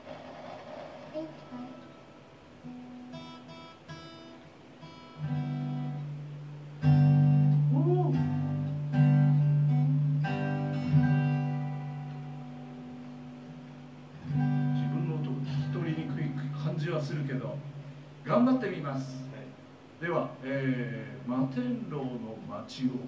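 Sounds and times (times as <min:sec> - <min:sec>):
acoustic guitar picking and strumming: 0:00.0 - 0:18.6.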